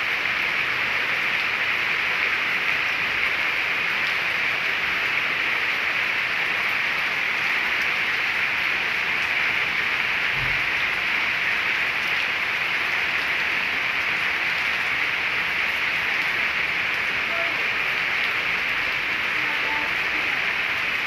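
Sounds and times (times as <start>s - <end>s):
steady rain on paving and leaves: 0.0s - 21.0s.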